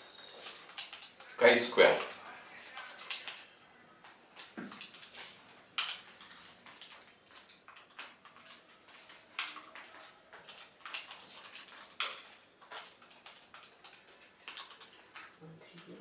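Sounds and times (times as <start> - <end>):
faint sharp clicks and taps: 2.0 - 16.0.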